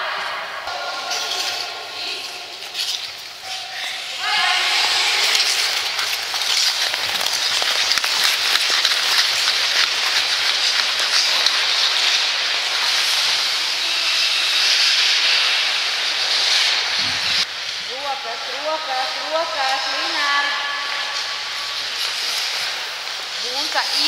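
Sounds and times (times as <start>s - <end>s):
ice skate blades scraping: 0.7s - 24.0s.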